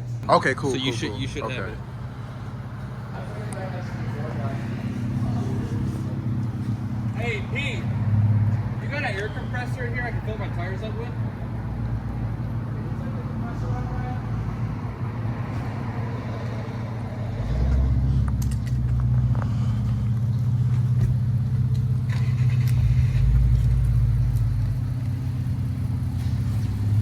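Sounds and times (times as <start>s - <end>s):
car engine exhaust drone: 0.0s - 27.0s.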